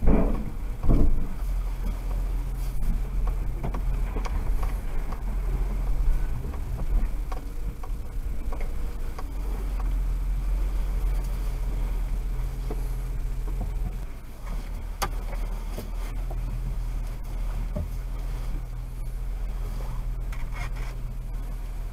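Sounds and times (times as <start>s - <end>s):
car engine hum: 0.0s - 21.9s
road noise: 0.0s - 21.9s.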